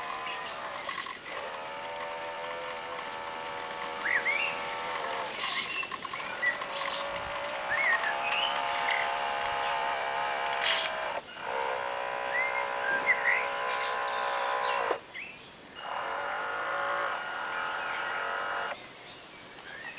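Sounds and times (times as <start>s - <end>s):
model boat motor whining: 0.0s - 15.0s, 15.8s - 18.8s
birds chirping: 0.0s - 19.9s.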